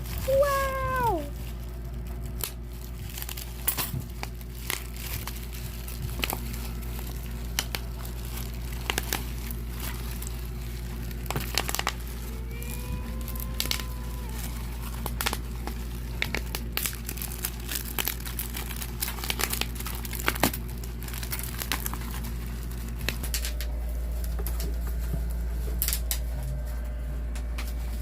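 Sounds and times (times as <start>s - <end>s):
packaging crinkling: 0.0s - 26.9s
steady low hum: 0.0s - 28.0s.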